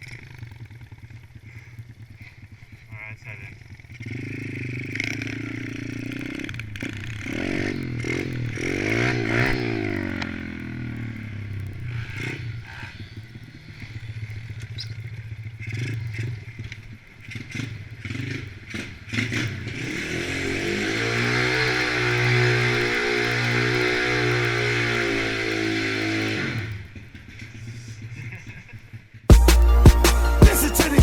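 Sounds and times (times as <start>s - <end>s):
pit bike engines revving: 0.0s - 31.0s.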